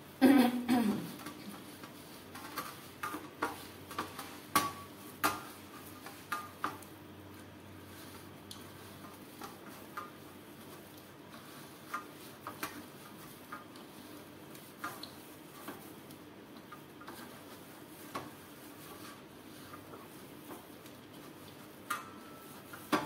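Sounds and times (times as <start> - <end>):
dough kneading in steel bowl: 0.9 - 23.0.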